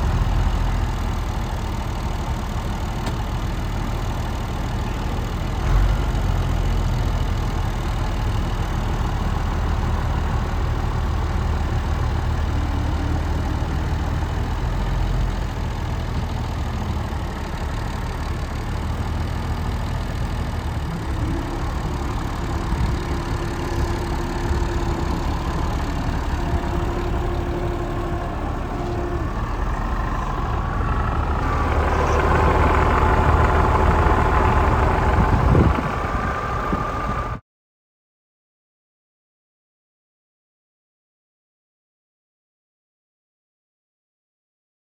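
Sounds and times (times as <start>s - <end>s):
tractor diesel engine idling: 0.0s - 37.4s.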